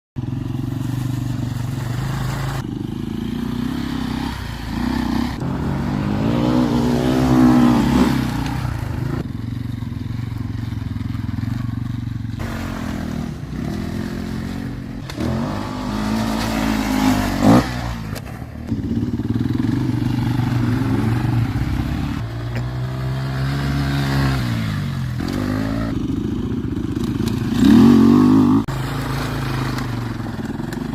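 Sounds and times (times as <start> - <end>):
dirt bike engine revving: 0.2 - 30.9.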